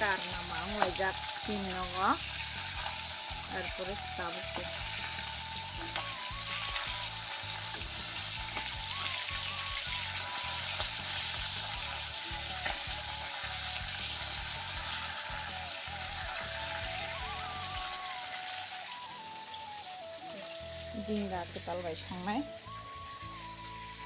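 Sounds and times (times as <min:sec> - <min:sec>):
background music with beat: 0:00.0 - 0:24.0
fish sizzling in hot oil: 0:00.0 - 0:24.0.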